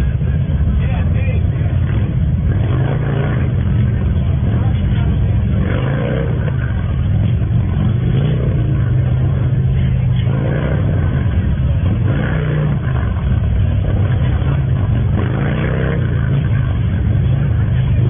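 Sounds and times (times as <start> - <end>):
motorcycle engines rumbling: 0.0 - 18.0.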